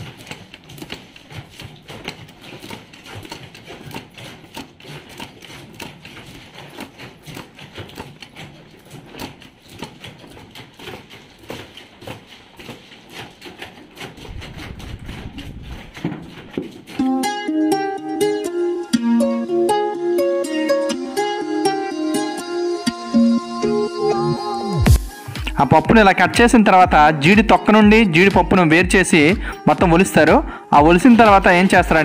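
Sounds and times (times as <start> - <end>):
cutting machines clacking: 0.0 - 22.4, 24.7 - 32.0.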